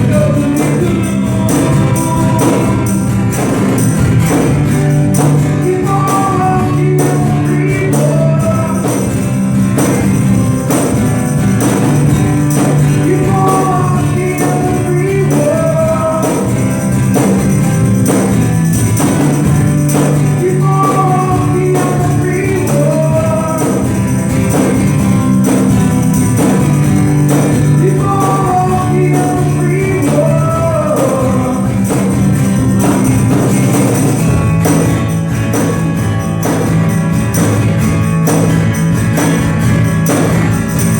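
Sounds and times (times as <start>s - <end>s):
band playing music: 0.0s - 40.9s.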